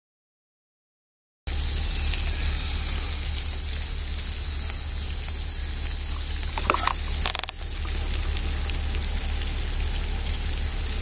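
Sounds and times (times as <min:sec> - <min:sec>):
low rumble: 0:01.5 - 0:11.0
steady high-pitched hiss: 0:01.5 - 0:11.0.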